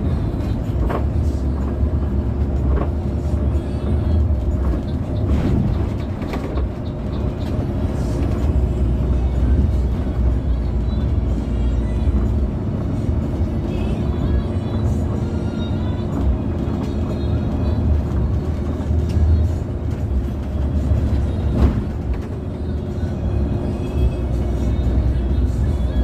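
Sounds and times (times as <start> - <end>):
bus engine and road rumble: 0.0 - 26.0
music playing: 0.0 - 26.0.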